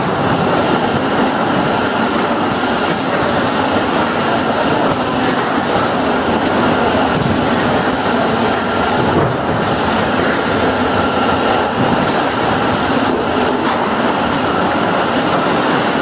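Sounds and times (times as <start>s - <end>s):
conveyor line mechanical clatter: 0.0s - 16.0s.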